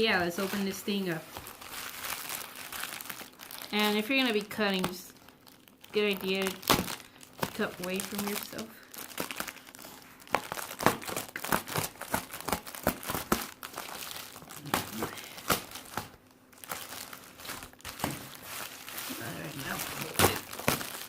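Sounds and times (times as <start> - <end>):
packaging crinkling and crackling: 0.0 - 21.0.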